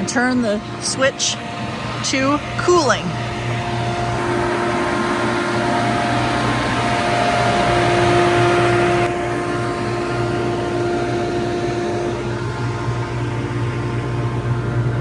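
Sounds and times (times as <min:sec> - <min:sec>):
grain dryer fan drone: 0:00.0 - 0:15.0.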